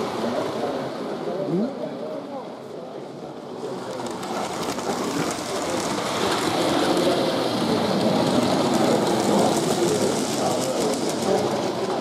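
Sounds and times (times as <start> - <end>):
model trains running on track: 0.0 - 12.0.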